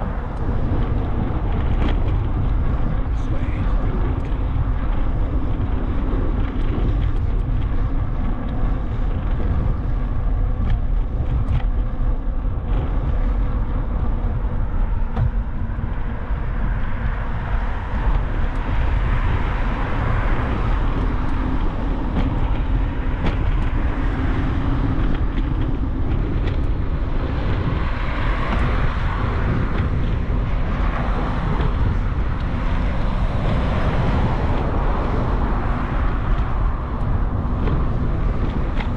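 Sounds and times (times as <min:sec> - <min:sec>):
road traffic: 0:00.0 - 0:38.9
vehicles passing: 0:00.0 - 0:38.9
wind rumble on microphone: 0:00.0 - 0:38.9.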